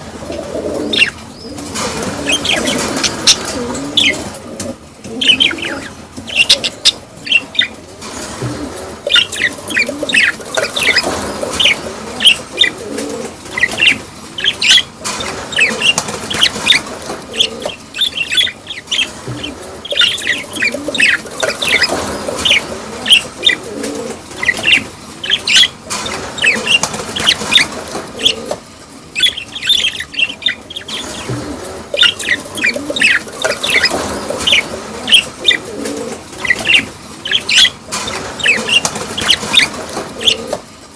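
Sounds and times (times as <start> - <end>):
budgerigars chirping: 0.3 - 4.5, 5.1 - 40.6.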